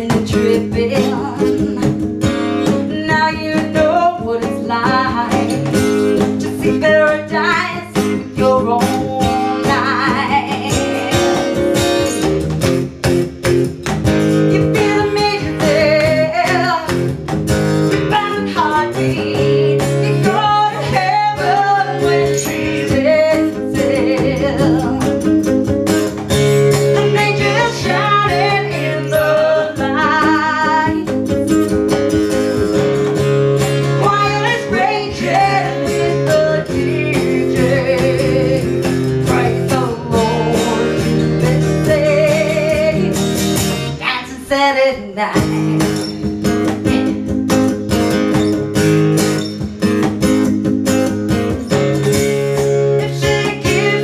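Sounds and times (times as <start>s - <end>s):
woman singing: 0.0s - 12.2s, 14.3s - 17.2s, 17.9s - 25.8s, 26.5s - 32.8s, 33.7s - 46.4s, 52.8s - 54.0s
cajon beat: 0.0s - 44.4s, 45.0s - 54.0s
strummed acoustic guitar: 0.0s - 54.0s.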